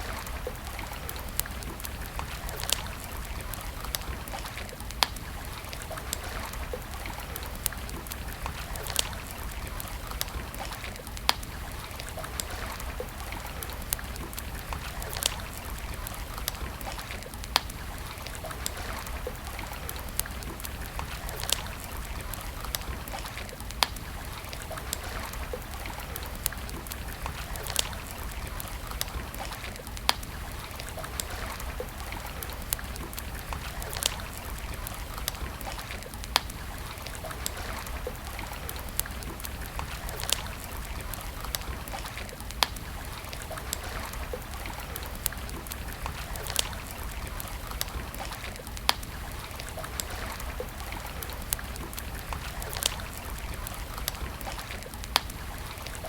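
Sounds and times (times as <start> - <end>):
campfire crackling: 0.0 - 56.0
sharp pops and snaps: 0.0 - 56.0.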